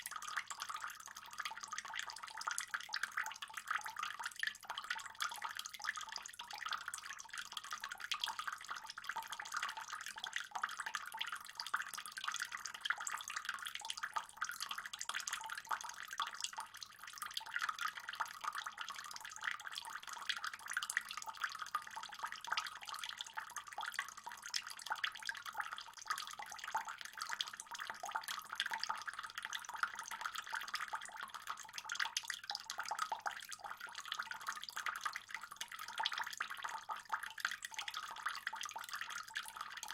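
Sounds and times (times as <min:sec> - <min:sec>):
pond water trickling and splashing: 0:00.0 - 0:39.9.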